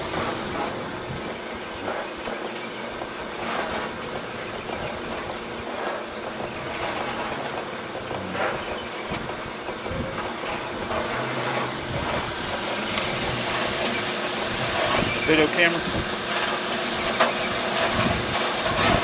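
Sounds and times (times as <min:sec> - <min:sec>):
thin high whine: 0:00.0 - 0:18.9
gutter machine running: 0:00.0 - 0:19.0.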